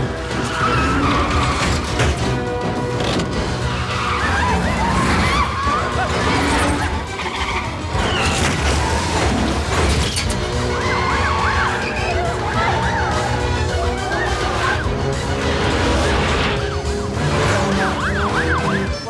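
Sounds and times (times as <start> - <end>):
car engines: 0.0 - 19.0
orchestral action music: 0.0 - 19.0
tyres screeching: 0.0 - 19.0.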